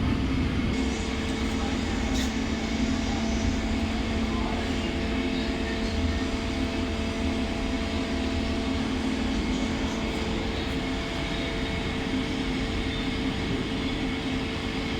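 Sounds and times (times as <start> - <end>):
machine hum with steady tones: 0.0 - 14.9.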